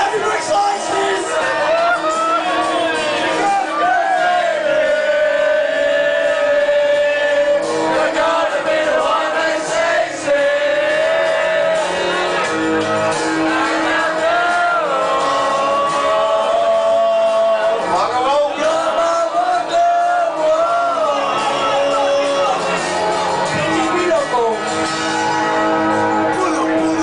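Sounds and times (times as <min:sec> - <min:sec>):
crowd shouting: 0:00.0 - 0:24.2
karaoke singing: 0:00.0 - 0:27.0
pop backing track: 0:00.0 - 0:27.0.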